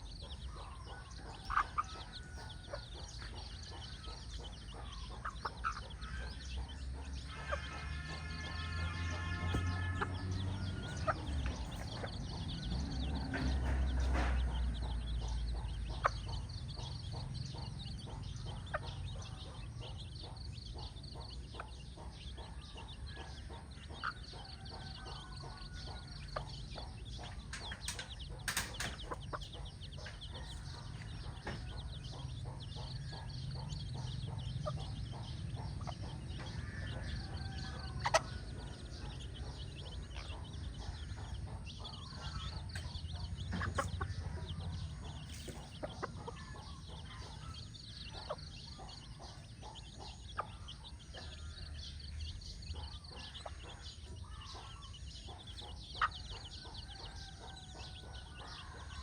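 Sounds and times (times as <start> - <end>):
chicks peeping: 0.0 - 59.0
hen clucking: 0.0 - 59.0.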